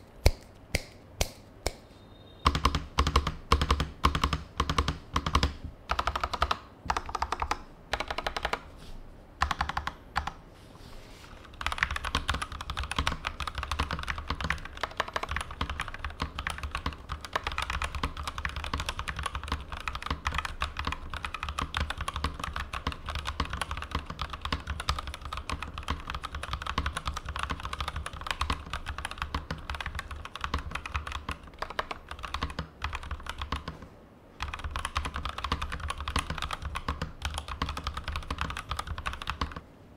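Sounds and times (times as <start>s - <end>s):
mechanical keyboard typing: 2.4s - 8.6s, 9.4s - 10.4s, 11.4s - 33.8s, 34.4s - 39.6s.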